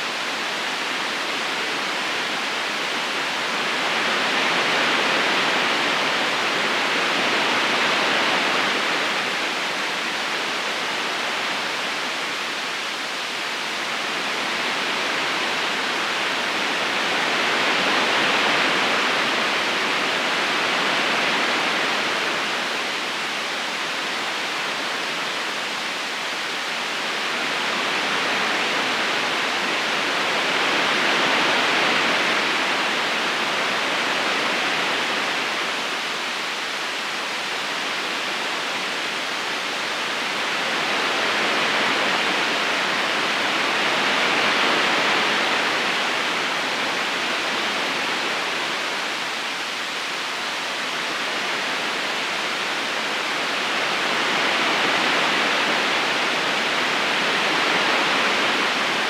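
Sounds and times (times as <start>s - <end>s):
river flowing over stones: 0.0s - 59.0s.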